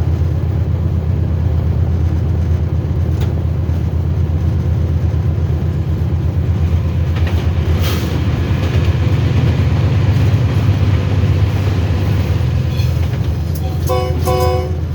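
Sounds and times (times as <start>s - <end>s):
train rumbling along track: 0.0s - 14.9s.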